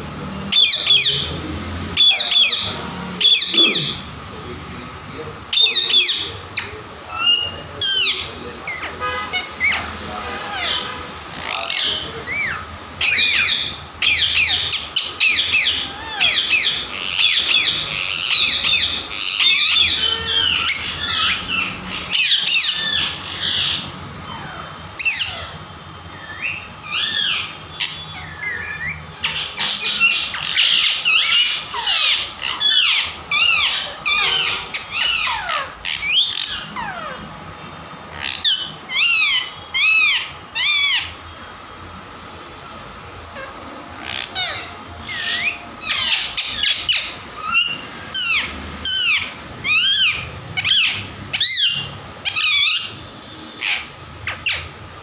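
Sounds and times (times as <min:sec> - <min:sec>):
parrots squawking: 0:00.0 - 0:55.0.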